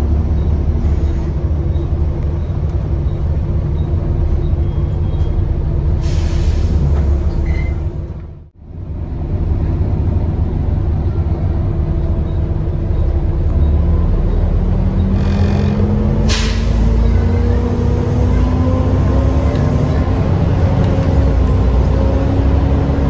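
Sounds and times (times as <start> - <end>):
bus diesel engine rumbling: 0.0 - 23.0.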